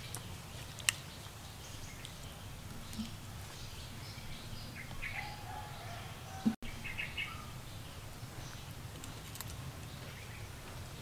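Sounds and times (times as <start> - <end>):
low outdoor background noise: 0.0 - 11.0
small birds chirping: 0.0 - 11.0.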